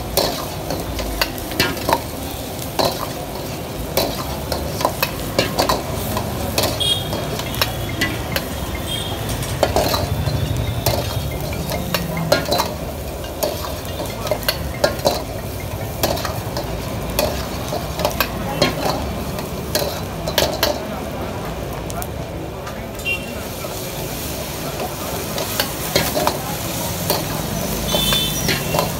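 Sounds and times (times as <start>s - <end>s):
ladle knocking and scraping wok: 0.0s - 20.9s, 24.8s - 28.9s
food sizzling: 0.0s - 28.9s.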